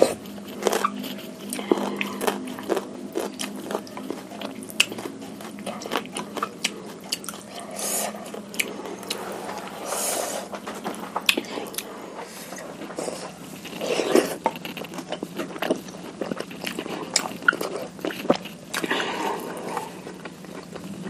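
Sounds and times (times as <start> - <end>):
close biting and chewing: 0.0 - 9.7, 10.4 - 21.0.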